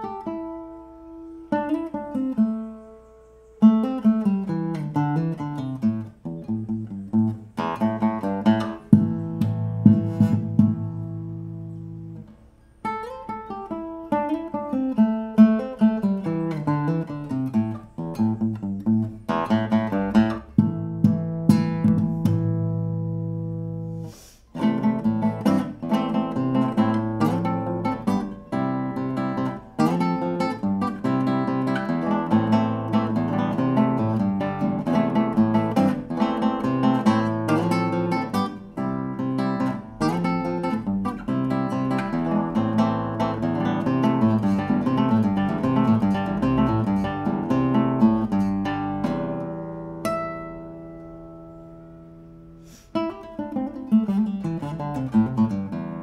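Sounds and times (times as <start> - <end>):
classical guitar fingerstyle: 0.0 - 56.0.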